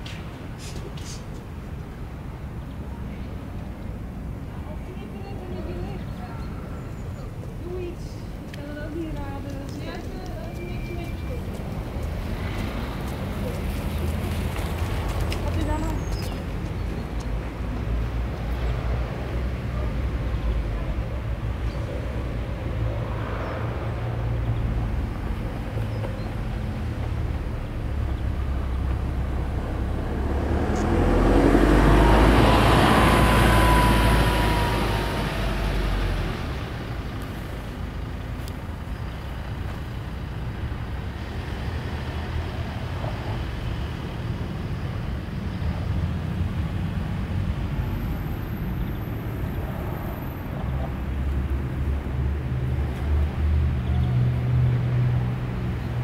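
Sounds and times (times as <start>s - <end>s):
low traffic rumble: 0.0s - 56.0s
vehicle passing: 7.9s - 56.0s.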